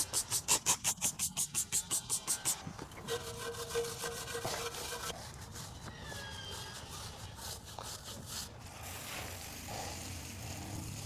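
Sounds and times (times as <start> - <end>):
brush scrubbing a tire: 0.0 - 11.0.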